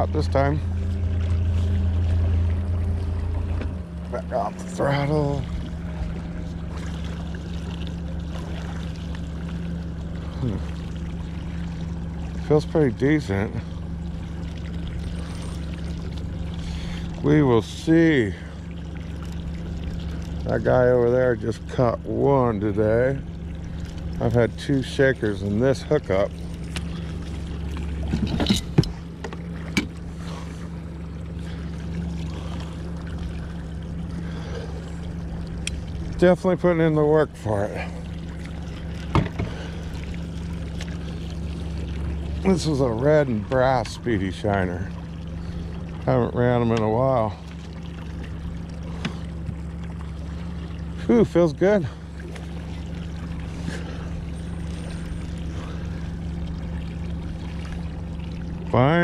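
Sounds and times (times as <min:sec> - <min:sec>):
outboard motor humming: 0:00.0 - 0:59.0
water washing past boat: 0:00.0 - 0:59.0.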